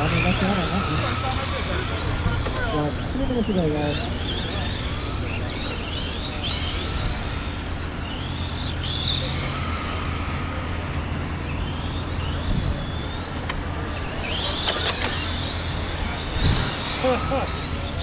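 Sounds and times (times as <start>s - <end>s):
electric motors and gears whining: 0.0s - 18.0s
steady low hum: 0.0s - 18.0s.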